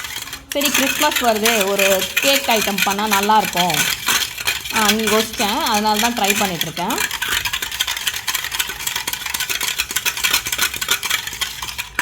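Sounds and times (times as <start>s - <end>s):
utensil stirring in a bowl: 0.0s - 12.0s.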